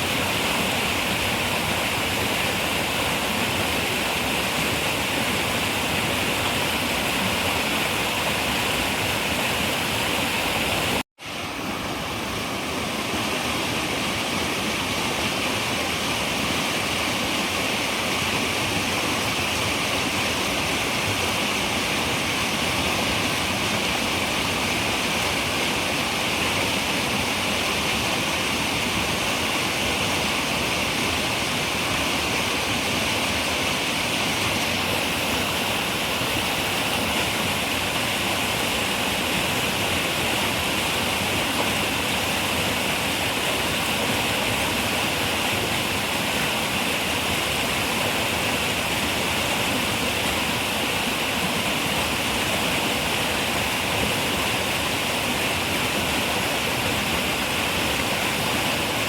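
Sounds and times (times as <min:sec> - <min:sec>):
river water running over rocks: 0:00.0 - 0:59.0.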